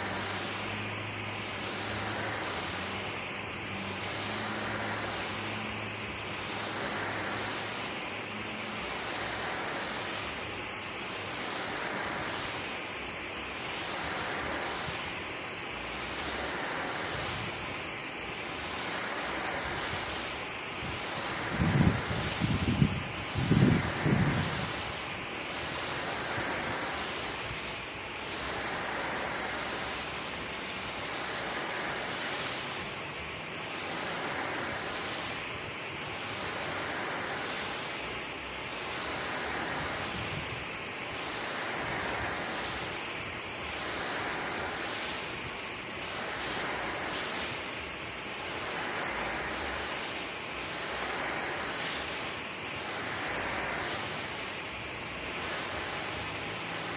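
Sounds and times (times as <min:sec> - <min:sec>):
water spraying onto lawn: 0:00.0 - 0:56.9.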